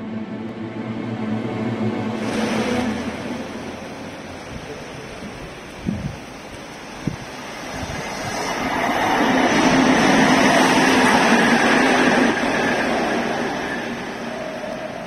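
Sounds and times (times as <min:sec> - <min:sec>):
locomotive passing at speed: 0:00.0 - 0:05.8, 0:07.2 - 0:15.0
wheels rushing on rail: 0:00.0 - 0:15.0.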